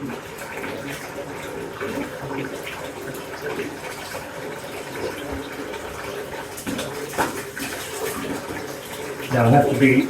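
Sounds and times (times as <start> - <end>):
tap water running into bathtub: 0.0 - 10.0.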